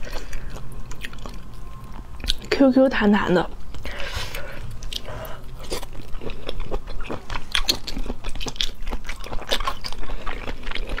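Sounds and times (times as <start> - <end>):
chewing and biting: 0.0 - 2.5, 4.7 - 11.0.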